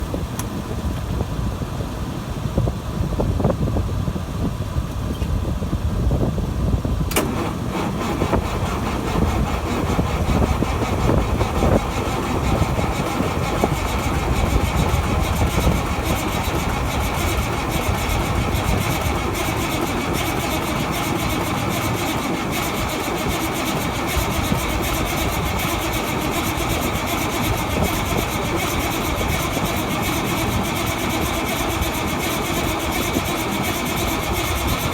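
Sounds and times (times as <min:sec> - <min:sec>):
diesel engine starting and running: 0:04.2 - 0:34.9
low rumble of engine cranking: 0:06.6 - 0:34.9.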